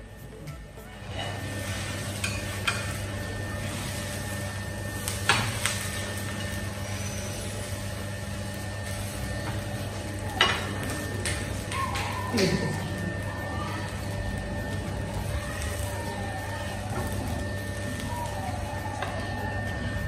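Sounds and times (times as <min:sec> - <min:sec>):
dosa sizzling on a pan: 0:01.0 - 0:20.0.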